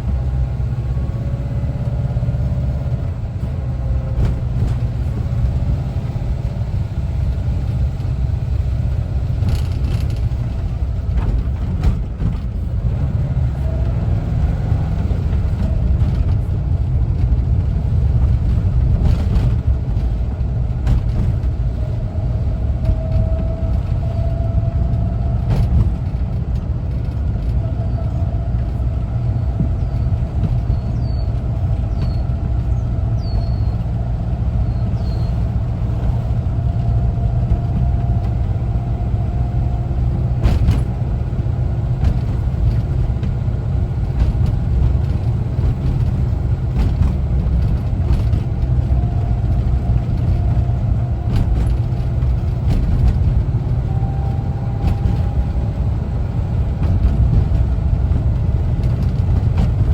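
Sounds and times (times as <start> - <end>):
road noise: 0.0 - 59.9
van engine rumbling: 0.0 - 59.9.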